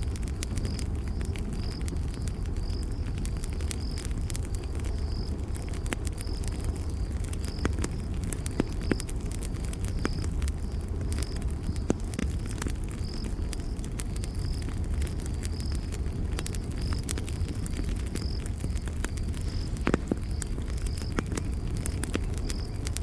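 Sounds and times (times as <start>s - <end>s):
campfire crackling and popping: 0.0s - 23.0s
crickets chirping: 0.0s - 23.0s.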